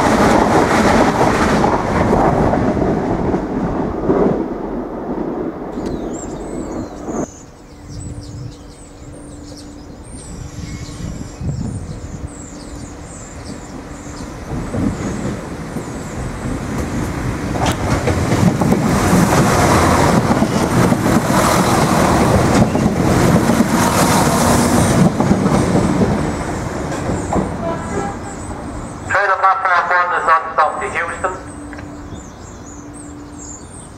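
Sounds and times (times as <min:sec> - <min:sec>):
diesel train passing: 0:00.0 - 0:33.9.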